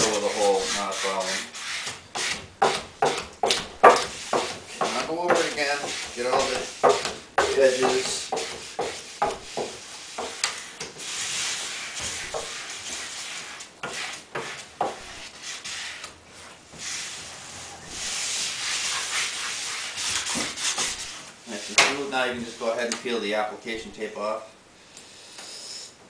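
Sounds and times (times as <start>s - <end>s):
dry rubbing hiss: 0.0s - 2.9s, 3.8s - 22.8s, 24.8s - 26.0s.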